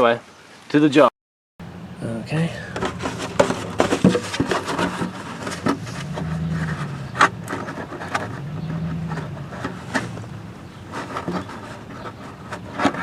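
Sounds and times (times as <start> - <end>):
clicks knocks and scraping: 2.6 - 13.0.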